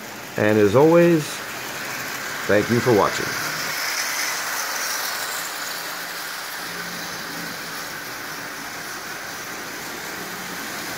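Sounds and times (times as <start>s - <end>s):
faint motor hum: 0.0s - 10.9s
toy train rolling rattle: 0.0s - 10.9s.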